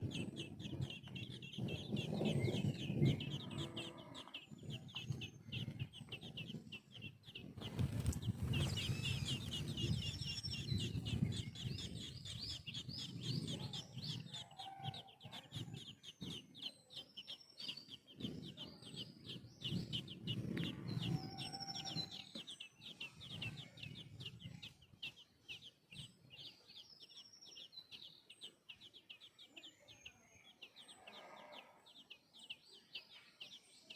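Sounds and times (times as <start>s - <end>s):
hatchlings chirping: 0.0s - 33.9s.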